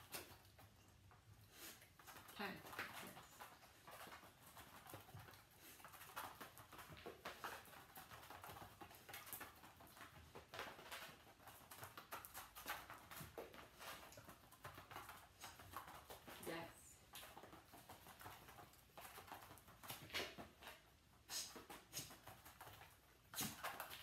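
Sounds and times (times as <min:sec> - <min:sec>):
dog paws on rubber mats: 0:00.0 - 0:24.0.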